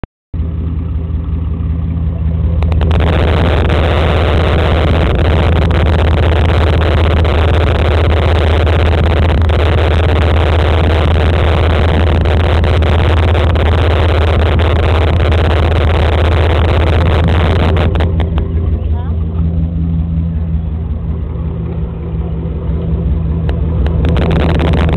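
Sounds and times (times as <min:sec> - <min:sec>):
engine running with deep drone: 0:00.4 - 0:24.9.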